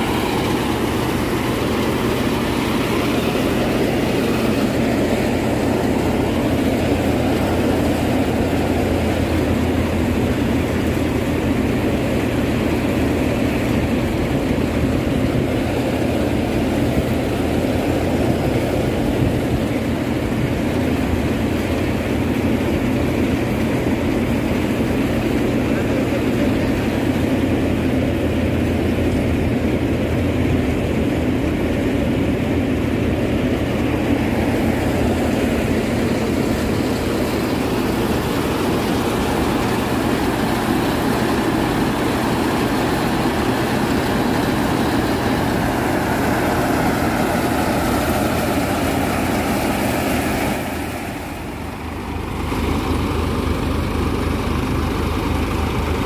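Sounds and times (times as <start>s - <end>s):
thresher drum and fans whirring: 0.0s - 56.0s
tractor engine under load: 0.0s - 56.0s.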